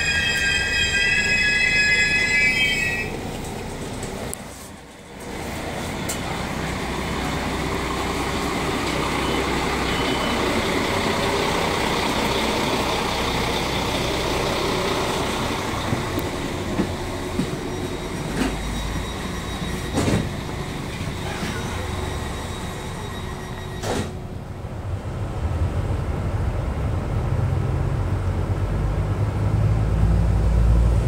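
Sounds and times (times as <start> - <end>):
diesel railcar engine running: 0.0 - 31.0.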